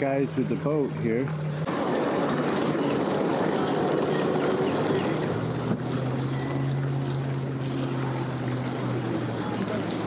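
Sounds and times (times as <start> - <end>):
boat engines idling: 0.0 - 10.0.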